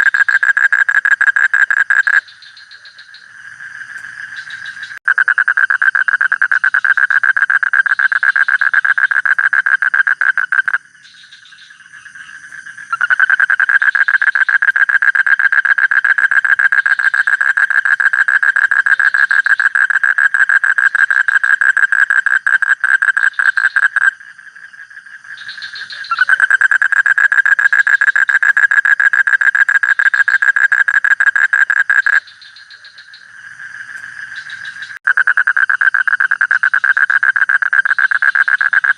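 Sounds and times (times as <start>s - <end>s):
faint frog calls: 0.0s - 38.9s
frog pulsed trills: 0.0s - 38.9s.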